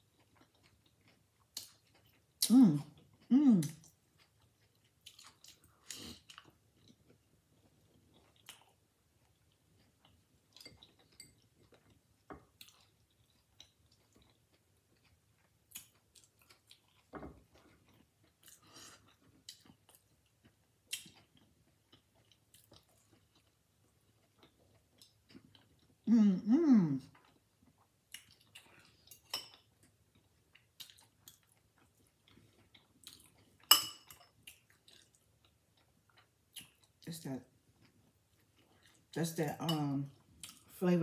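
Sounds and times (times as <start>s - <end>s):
chewing crunchy taco: 0.0s - 26.1s, 27.0s - 39.4s, 40.0s - 40.8s.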